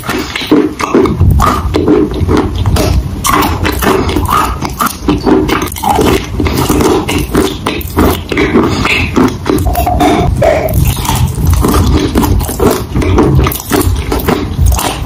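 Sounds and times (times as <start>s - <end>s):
chewing sticky paste: 0.0s - 15.0s
mouth clicks: 0.0s - 15.0s.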